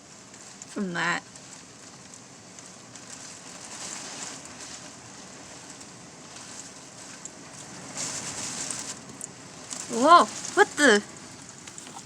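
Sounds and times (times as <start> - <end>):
rain and wind: 0.0 - 12.0.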